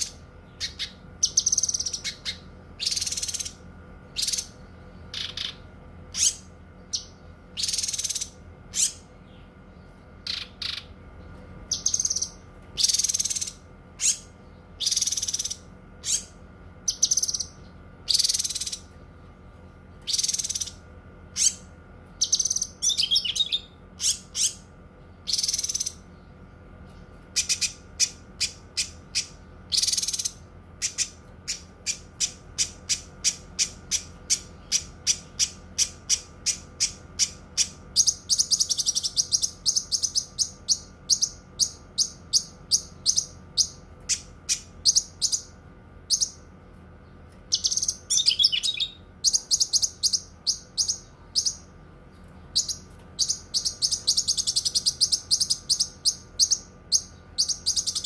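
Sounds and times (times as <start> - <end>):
bird singing: 0.0 - 58.0
faint steady hum: 0.0 - 58.0.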